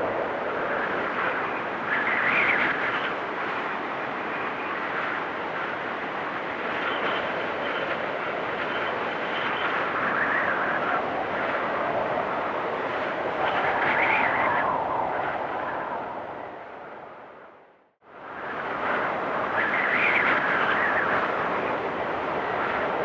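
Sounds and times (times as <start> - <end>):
blizzard wind blowing: 0.0 - 23.0.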